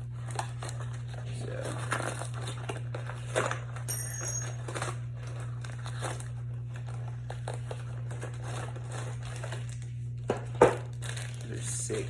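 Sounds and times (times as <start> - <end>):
packaging crinkling and tearing: 0.0 - 3.9, 4.5 - 12.0.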